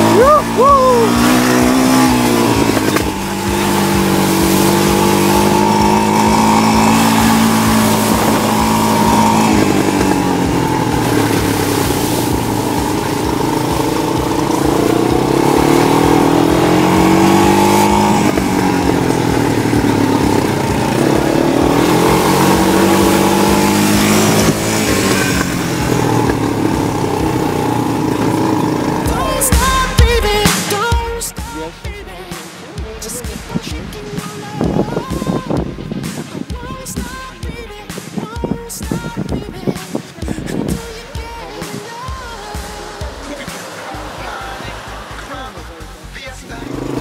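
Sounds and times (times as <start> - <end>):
quad bike engine revving: 0.0 - 47.0
rough rumble and hiss of ride: 0.0 - 47.0.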